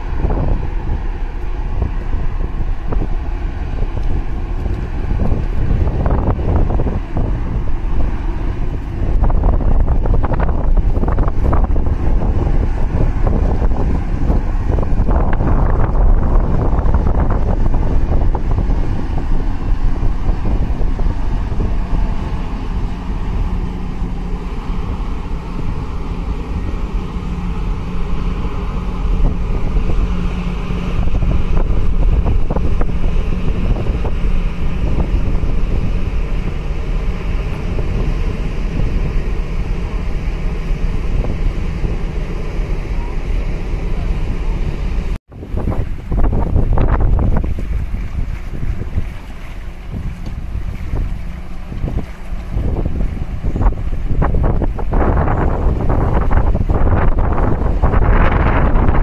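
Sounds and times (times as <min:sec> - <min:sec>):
boat engines droning: 0:00.0 - 0:59.0
wind buffeting microphone: 0:00.0 - 0:59.0.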